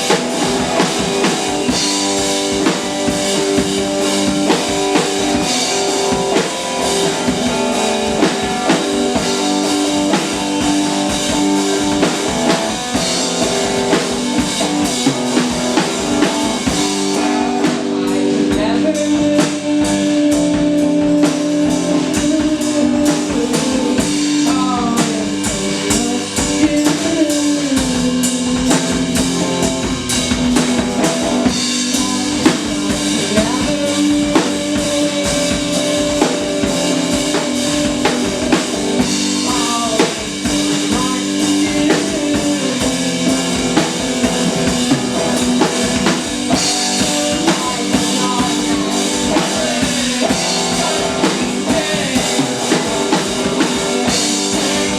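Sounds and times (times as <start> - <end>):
drum kit beat: 0.0 - 54.9
guitar: 0.0 - 54.9.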